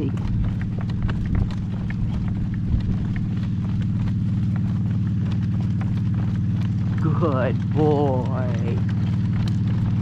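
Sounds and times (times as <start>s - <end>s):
horse hoofbeats trotting: 0.0s - 10.0s
wind rumble on microphone: 0.0s - 10.0s.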